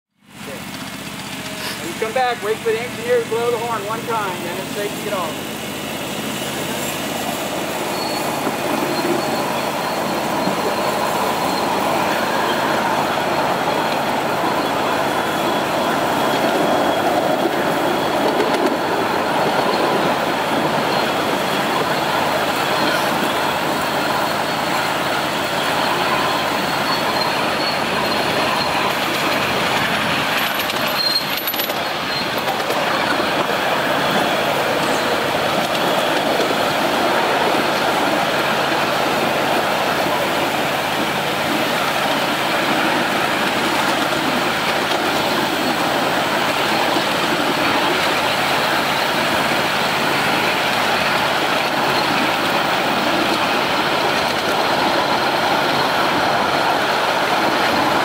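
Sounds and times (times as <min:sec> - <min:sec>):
small train wheels rolling on rail: 0:00.2 - 0:58.0.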